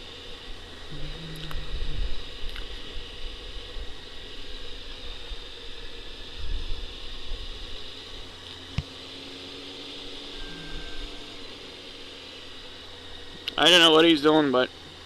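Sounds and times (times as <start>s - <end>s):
faint motorcycle engine hum: 0.0s - 15.0s.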